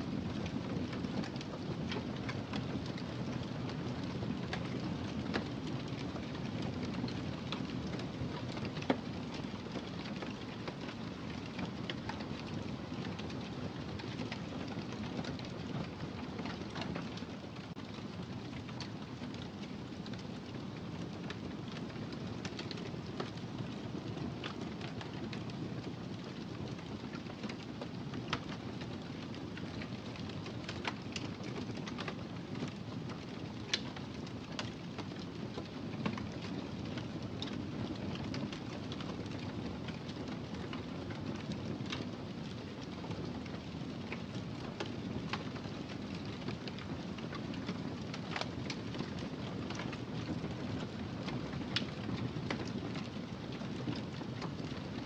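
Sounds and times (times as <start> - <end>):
wood fire crackling and popping: 0.1 - 55.0
fire rumbling: 0.3 - 55.0.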